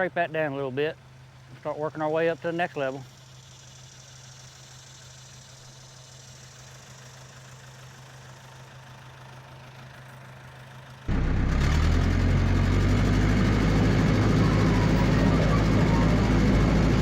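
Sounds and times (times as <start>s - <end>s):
dozer engine idling: 0.0s - 17.0s
dozer engine running loud: 0.0s - 17.0s.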